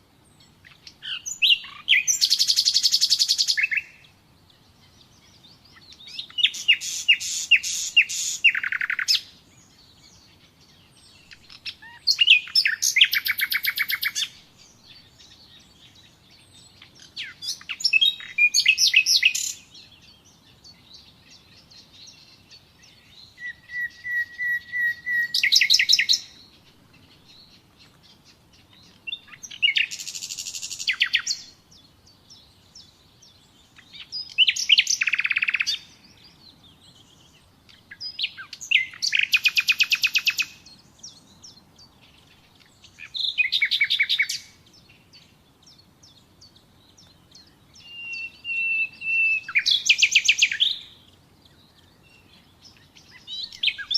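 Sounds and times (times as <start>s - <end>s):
nightingale singing: 0.0s - 53.9s.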